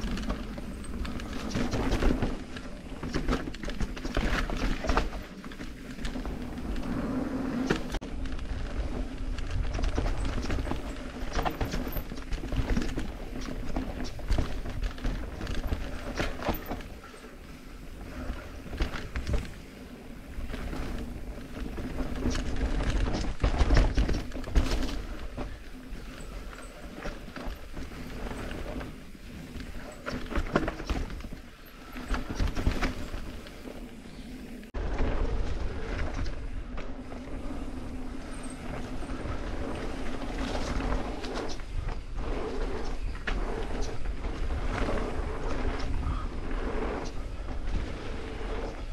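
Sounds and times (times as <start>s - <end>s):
bike knocking and rattling: 0.0s - 48.9s
tyres rolling over dirt: 0.0s - 48.9s
wind rumble on microphone: 0.0s - 48.9s.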